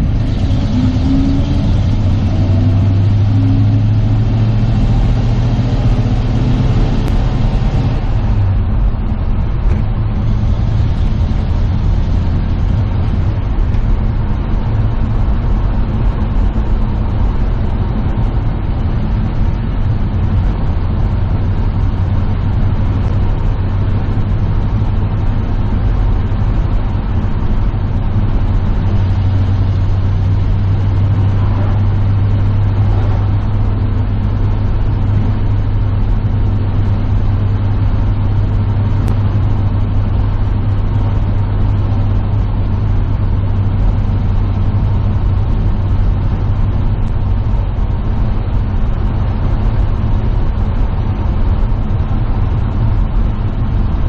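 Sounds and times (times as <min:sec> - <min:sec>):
road noise: 0:00.0 - 0:54.0
truck engine running: 0:00.0 - 0:54.0.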